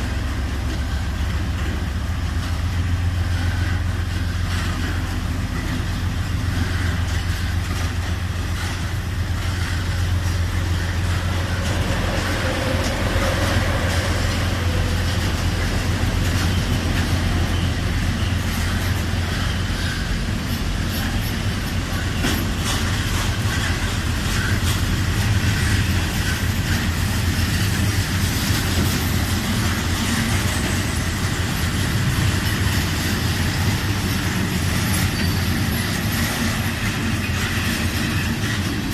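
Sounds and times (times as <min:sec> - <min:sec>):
locomotive engine drone: 0:00.0 - 0:38.9
wagons rolling on rails: 0:00.0 - 0:38.9.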